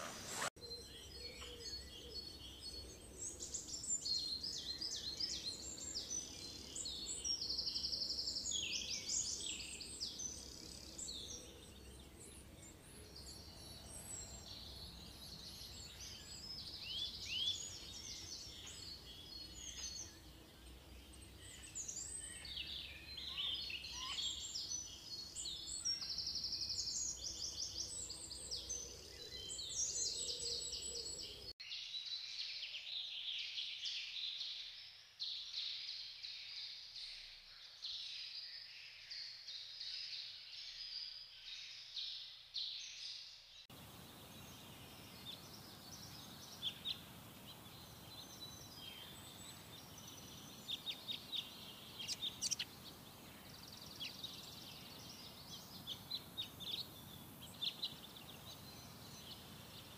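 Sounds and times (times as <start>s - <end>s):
birds chirping and trilling: 0.0s - 34.2s, 42.8s - 59.9s.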